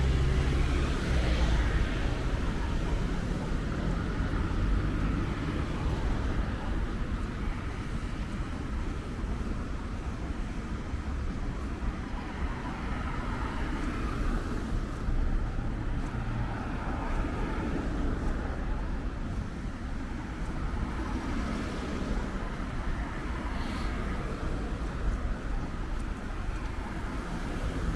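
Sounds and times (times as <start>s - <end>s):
road traffic: 0.0s - 27.9s.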